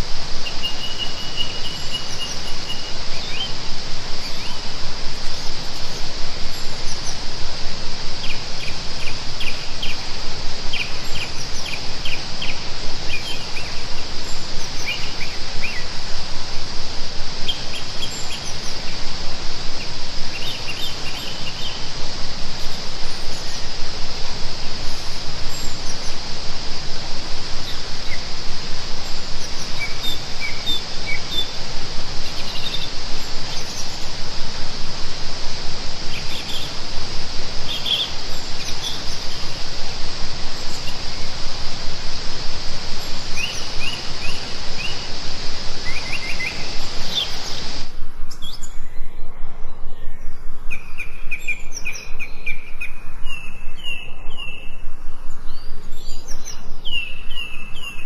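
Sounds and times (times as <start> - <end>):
birds chirping: 0.0 - 16.4, 17.3 - 58.0
insect drone: 0.0 - 58.0
steady noisy hiss: 0.0 - 58.0.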